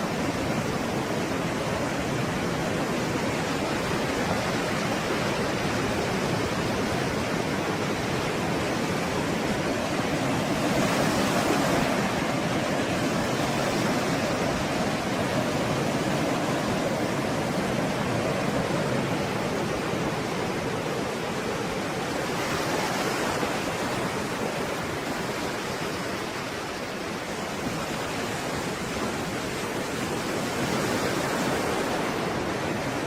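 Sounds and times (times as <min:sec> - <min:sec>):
stormy sea waves surf: 0:00.0 - 0:33.0.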